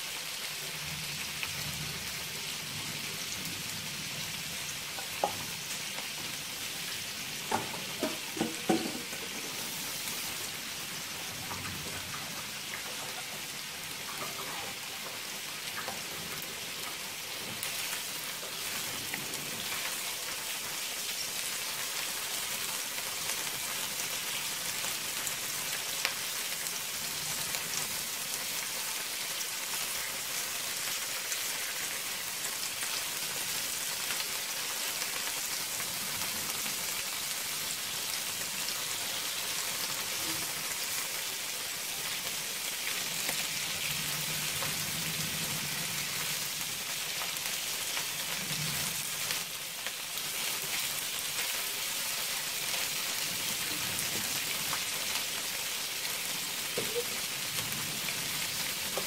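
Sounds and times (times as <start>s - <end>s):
prawns sizzling in oil: 0.0s - 59.0s.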